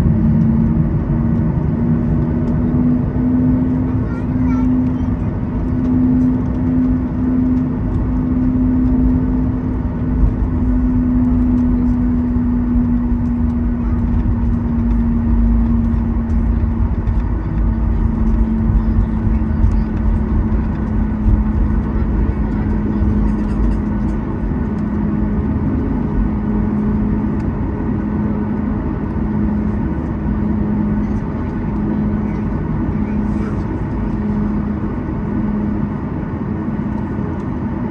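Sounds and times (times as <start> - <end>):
airplane cabin rumble: 0.0 - 37.9
jet engines humming: 0.0 - 37.9.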